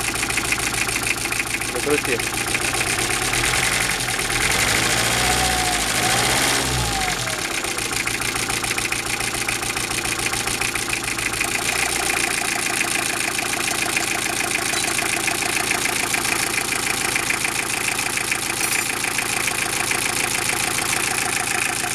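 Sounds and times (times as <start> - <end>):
diesel engine running: 0.0 - 21.9
engine knock: 0.0 - 21.9.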